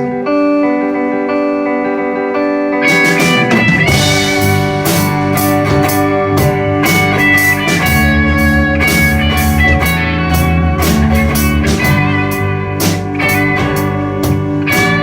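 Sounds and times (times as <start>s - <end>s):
sustained guitar notes: 0.0s - 15.0s
bass line: 2.9s - 15.0s
drum hits: 2.9s - 15.0s.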